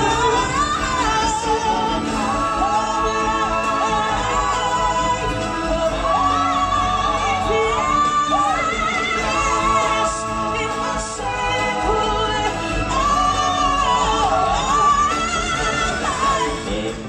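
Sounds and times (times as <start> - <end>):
backing music: 0.0 - 17.0.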